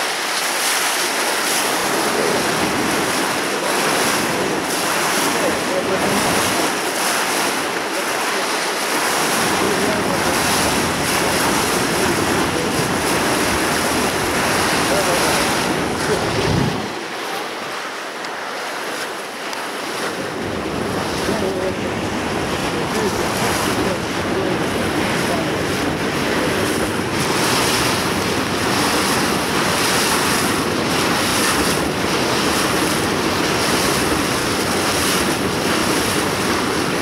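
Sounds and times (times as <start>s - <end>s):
river water rushing: 0.0s - 37.0s
wind buffeting microphone: 1.1s - 17.7s, 19.8s - 37.0s.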